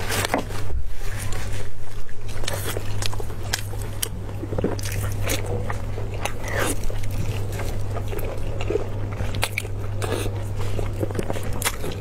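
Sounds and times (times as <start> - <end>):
low hum: 0.0 - 12.0
wet chewing mouth noises: 1.2 - 12.0.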